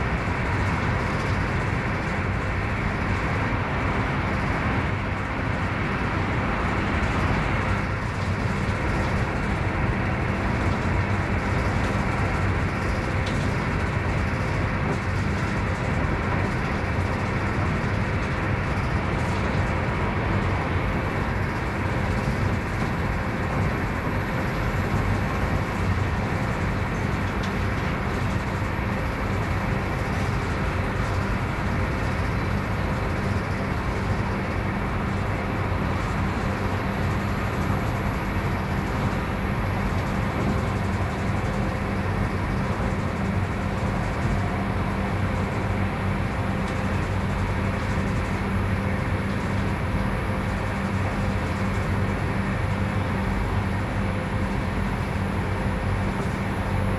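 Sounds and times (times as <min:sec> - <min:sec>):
rumble of wheels on rails: 0:00.0 - 0:56.9.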